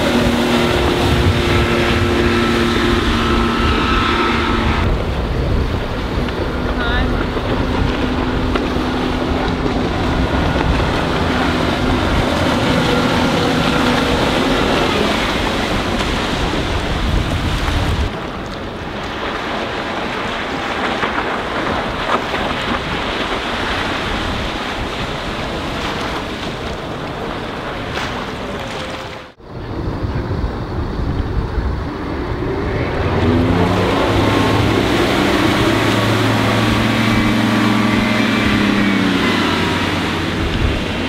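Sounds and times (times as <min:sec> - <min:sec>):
boat engine drone: 0:00.0 - 0:41.0
hiss of wind and water: 0:00.0 - 0:41.0
wind rumble on microphone: 0:00.0 - 0:41.0.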